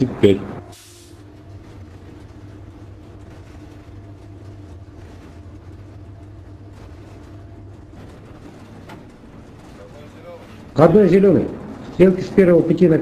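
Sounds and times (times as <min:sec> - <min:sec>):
locomotive cab hum: 0:00.0 - 0:12.7
train rolling noise: 0:00.0 - 0:13.0.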